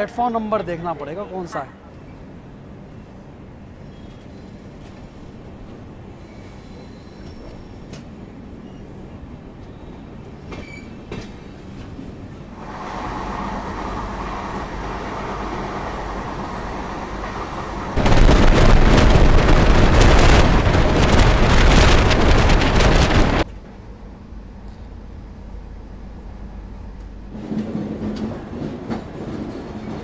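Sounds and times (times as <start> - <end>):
train coaches rolling on track: 0.0 - 23.9, 26.1 - 30.0
rush of wind and wheels on rail: 0.0 - 30.0.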